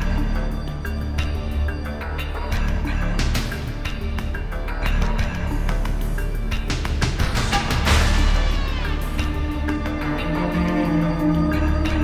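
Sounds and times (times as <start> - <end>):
background music with driving beat: 0.0 - 12.0.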